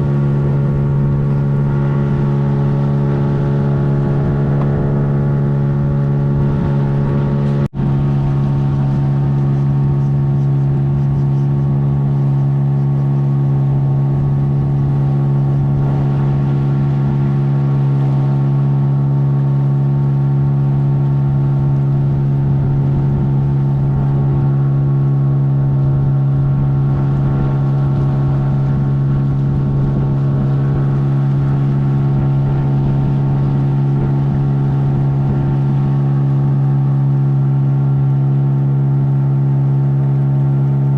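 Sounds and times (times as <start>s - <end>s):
boat engine droning: 0.0s - 40.9s.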